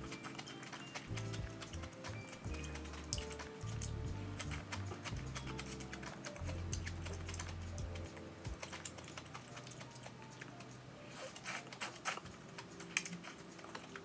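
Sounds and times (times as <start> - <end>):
chewing and slurping noodles: 0.0 - 14.0.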